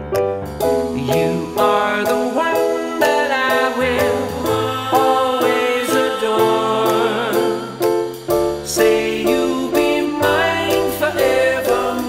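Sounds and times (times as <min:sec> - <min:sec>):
mid-tempo song with beat: 0:00.0 - 0:12.0.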